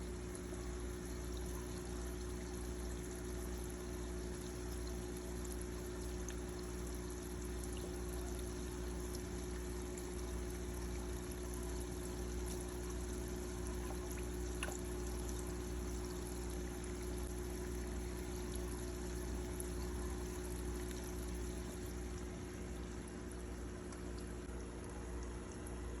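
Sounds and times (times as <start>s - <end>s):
water pouring into aquarium: 0.0s - 26.0s.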